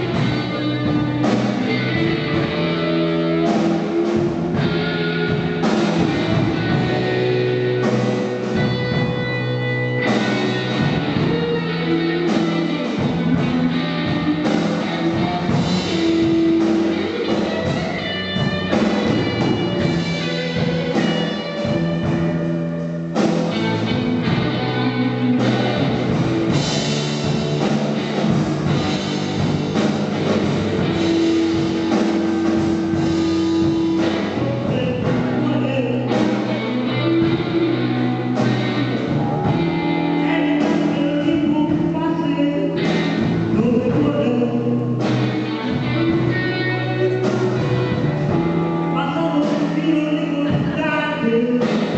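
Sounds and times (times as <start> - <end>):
rock band music: 0.0 - 51.9.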